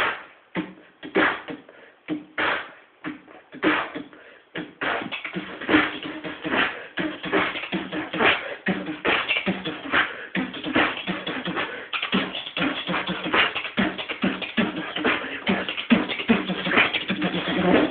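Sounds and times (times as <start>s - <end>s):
beatboxing: 0.0s - 17.9s.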